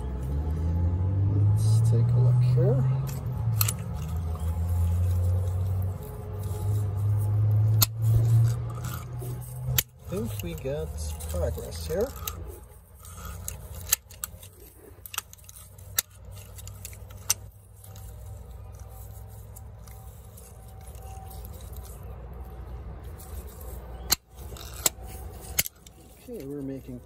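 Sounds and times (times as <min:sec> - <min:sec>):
low steady rumble: 0:00.0 - 0:27.0
sharp metal clicks: 0:01.9 - 0:27.0
pliers scraping on metal: 0:02.9 - 0:27.0.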